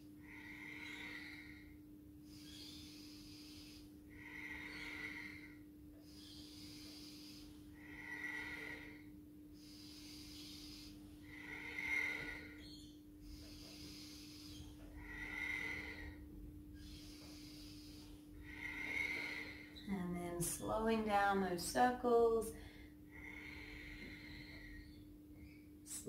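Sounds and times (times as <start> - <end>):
faint steady hum: 0.0 - 26.0
woman breathing through the nose: 0.1 - 19.9, 22.5 - 25.7.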